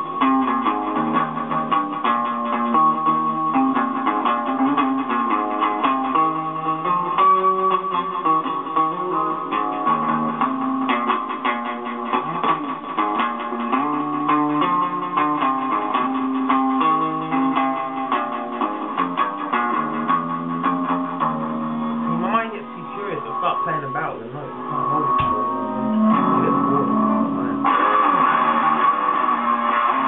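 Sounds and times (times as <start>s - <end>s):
electric guitar playing: 0.0s - 30.0s.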